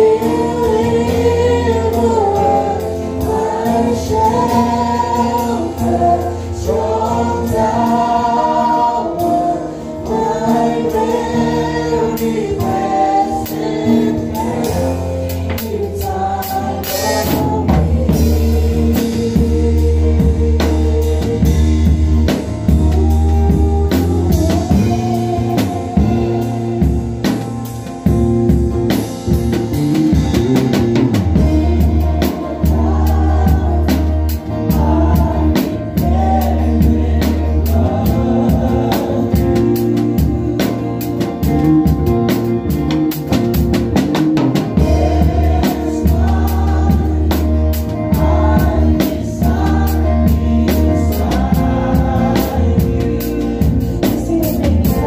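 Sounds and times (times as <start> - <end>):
voices singing: 0.0 - 27.9, 30.5 - 42.9, 43.7 - 55.0
drum kit beat: 0.0 - 55.0
worship band playing: 0.0 - 55.0.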